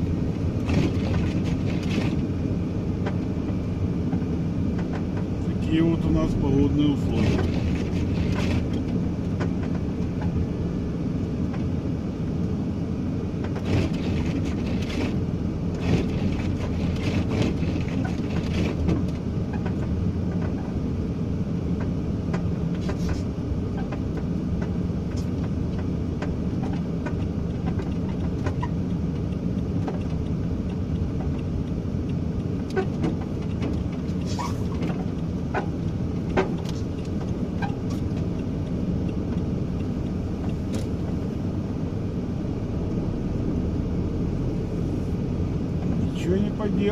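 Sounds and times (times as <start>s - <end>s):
engine and tyre rumble: 0.0s - 46.9s.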